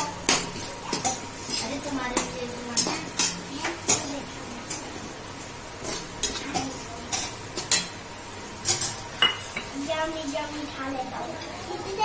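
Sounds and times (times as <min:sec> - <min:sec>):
oil sizzling: 0:00.0 - 0:12.0.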